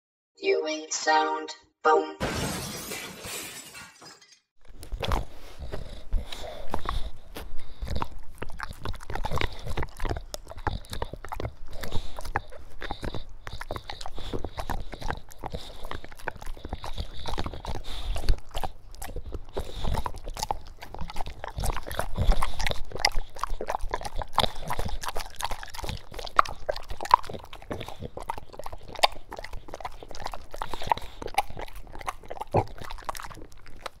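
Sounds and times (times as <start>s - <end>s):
dog eating wet food: 4.6s - 34.0s.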